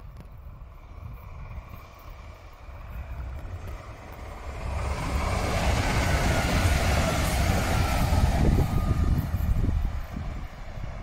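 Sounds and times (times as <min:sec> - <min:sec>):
train passing with rumbling wheels: 0:00.0 - 0:11.0.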